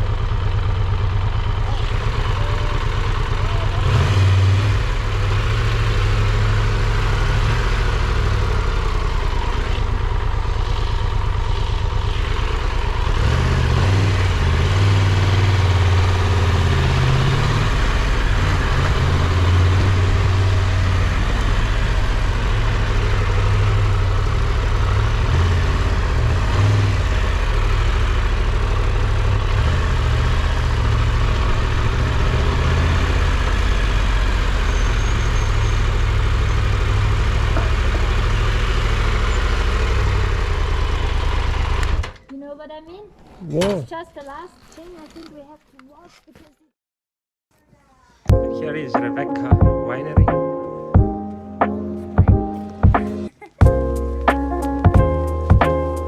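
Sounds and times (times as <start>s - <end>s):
motorcycle engine running: 0.0s - 42.2s, 51.0s - 56.0s.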